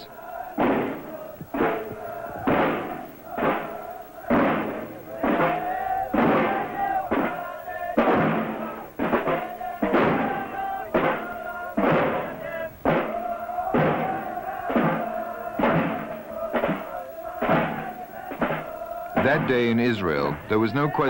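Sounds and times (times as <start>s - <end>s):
crowd shouting in rhythm: 0.0s - 21.0s
snare drums: 0.0s - 21.0s.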